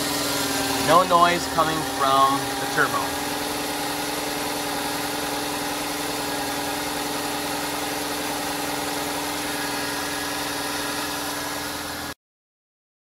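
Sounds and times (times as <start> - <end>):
car engine idling: 0.0 - 12.1.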